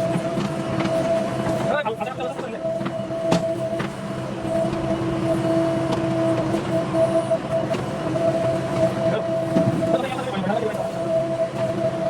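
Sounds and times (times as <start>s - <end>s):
constant whine: 0.0s - 12.0s
diesel engine drone: 0.0s - 12.0s.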